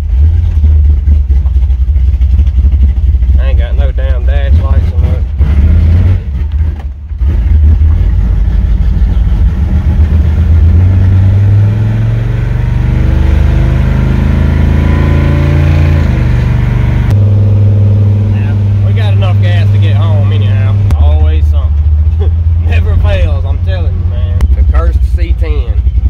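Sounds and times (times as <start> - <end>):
loud engine while driving: 0.0 - 26.0.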